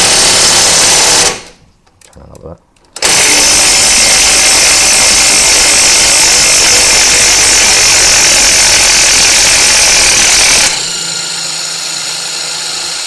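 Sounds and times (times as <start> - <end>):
electric power tool running: 0.0 - 1.5, 3.0 - 13.0.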